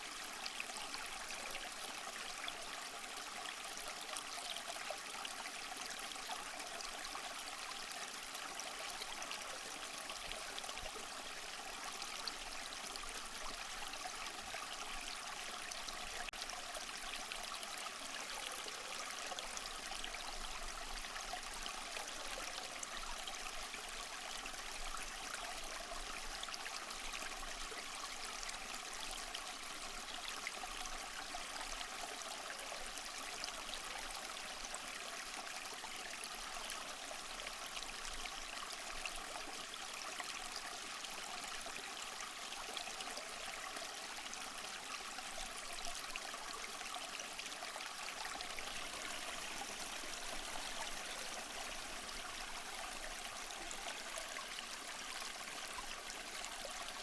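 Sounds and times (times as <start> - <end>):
small waterfall splashing: 3.8 - 57.0.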